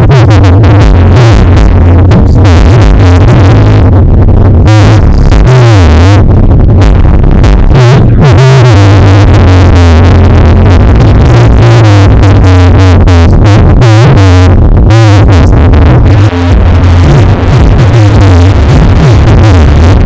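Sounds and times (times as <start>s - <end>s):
distorted electronic music: 0.0s - 20.0s
heavy booming bass: 0.0s - 20.0s
warbling synthesizer: 0.0s - 20.0s.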